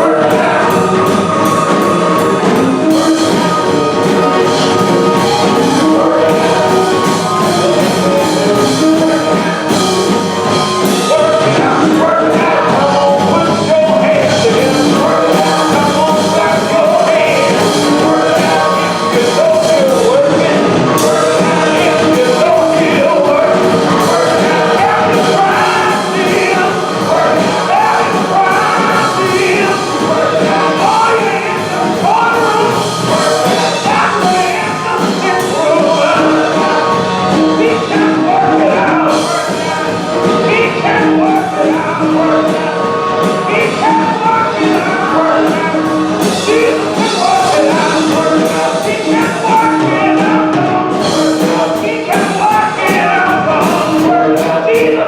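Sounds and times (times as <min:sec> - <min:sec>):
gospel singing with instruments: 0:00.0 - 0:55.0.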